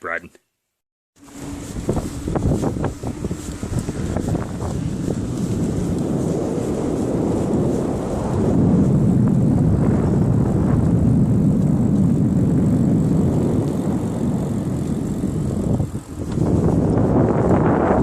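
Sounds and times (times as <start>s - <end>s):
bicycle tyres rolling on trail: 1.2s - 18.0s
wind buffeting microphone: 1.2s - 18.0s.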